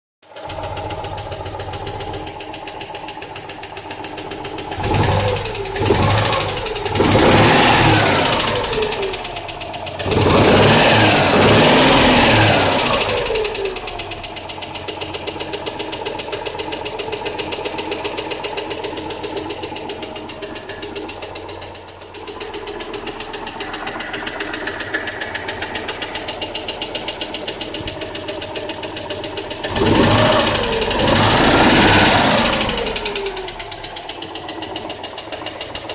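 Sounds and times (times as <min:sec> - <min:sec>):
car engine idling and revving: 0:00.2 - 0:35.9.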